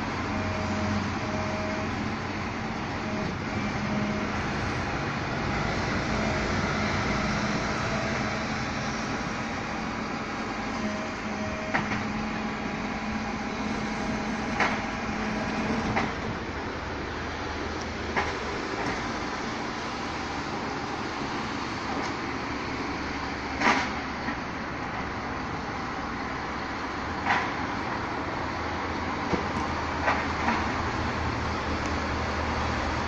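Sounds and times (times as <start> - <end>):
garbage truck running: 0.0 - 33.0.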